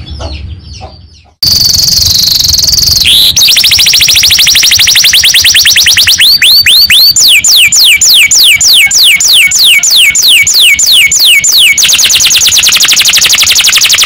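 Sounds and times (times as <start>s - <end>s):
canary singing: 0.0s - 14.0s.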